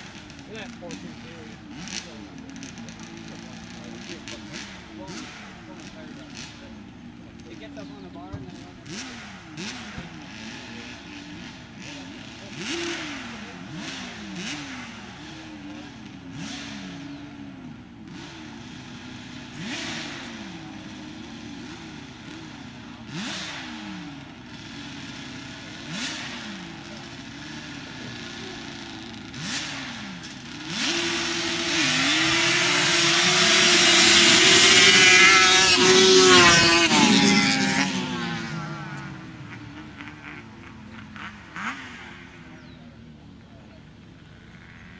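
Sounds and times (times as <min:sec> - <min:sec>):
quad engines revving: 0:00.0 - 0:44.9.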